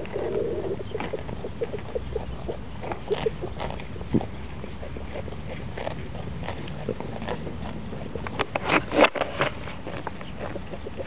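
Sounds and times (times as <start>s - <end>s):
goat chewing grass: 0.0s - 11.0s.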